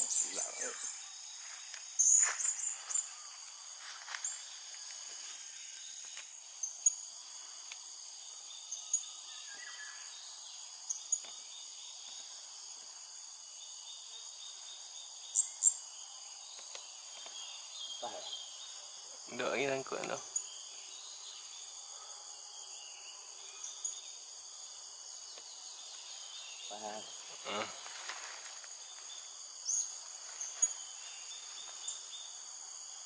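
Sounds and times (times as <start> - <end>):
insect drone: 0.0 - 33.0.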